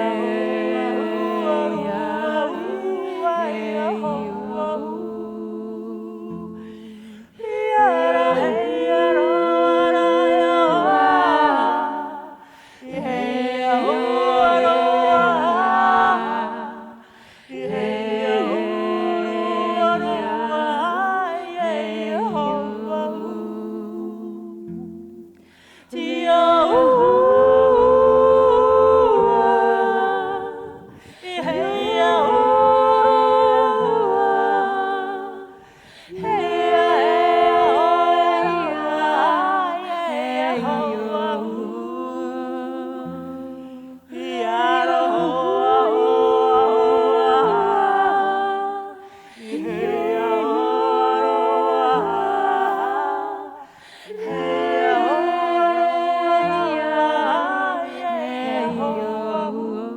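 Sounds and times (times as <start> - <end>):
vocal ensemble humming a lullaby: 0.0 - 59.9.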